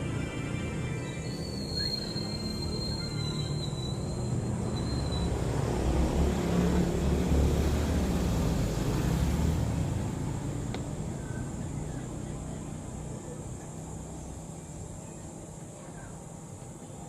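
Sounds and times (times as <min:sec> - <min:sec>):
low engine rumble: 0:01.8 - 0:17.0.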